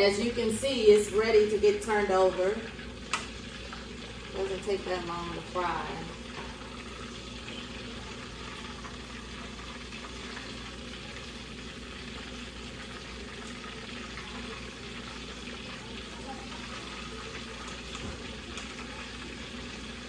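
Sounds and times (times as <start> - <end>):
fish deep-frying in oil: 0.0 - 20.0.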